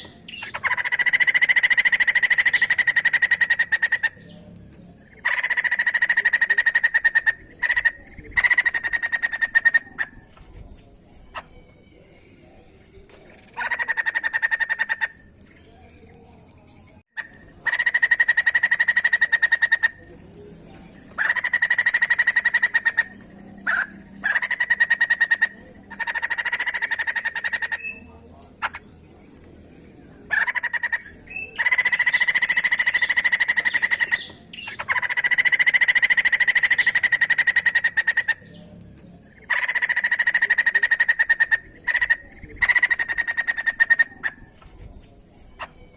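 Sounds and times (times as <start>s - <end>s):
bird chattering calls: 0.0s - 44.7s, 45.3s - 45.9s.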